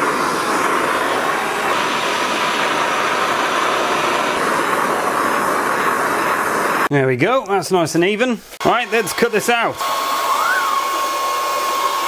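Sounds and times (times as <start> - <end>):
blowtorch flame hissing: 0.0 - 6.9, 8.6 - 12.0.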